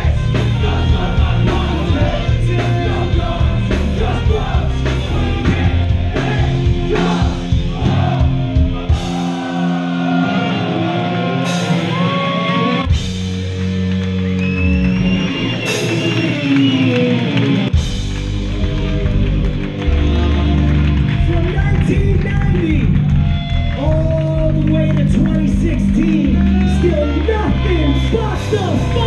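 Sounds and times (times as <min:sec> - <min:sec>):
rock band playing: 0:00.0 - 0:29.0.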